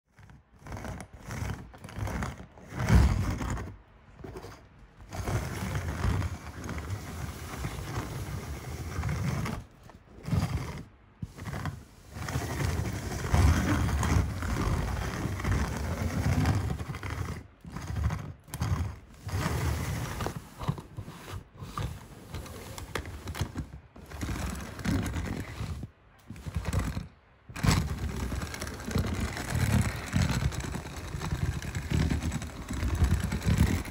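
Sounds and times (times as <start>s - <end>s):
toy cars rolling on tabletop: 0.1s - 33.9s.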